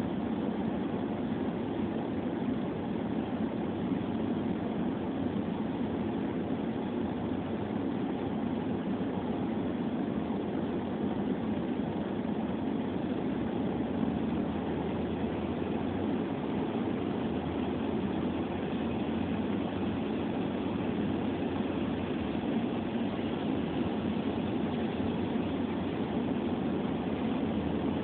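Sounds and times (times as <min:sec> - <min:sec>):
road and engine noise inside car: 0:00.0 - 0:28.0
tyres on wet snowy road: 0:00.0 - 0:28.0.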